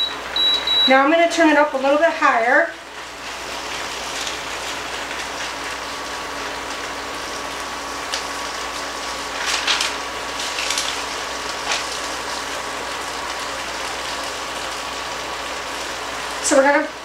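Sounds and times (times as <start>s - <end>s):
beef sizzling in a pot: 0.2s - 17.0s.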